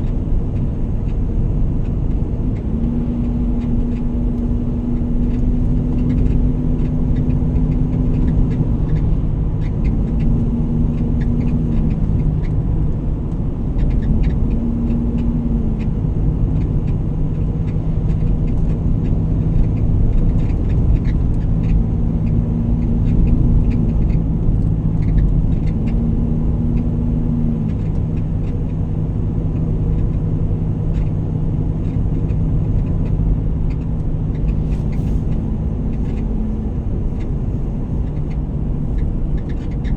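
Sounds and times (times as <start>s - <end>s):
vehicle engine and road rumble: 0.0s - 39.9s
small rattling ticks: 1.8s - 12.6s, 13.7s - 15.9s, 17.6s - 28.8s, 30.9s - 39.9s.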